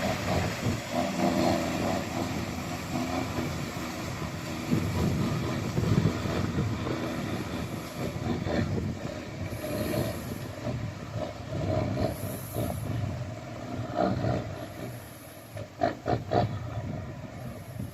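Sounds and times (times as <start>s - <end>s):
truck diesel engine rumbling: 0.0s - 17.9s.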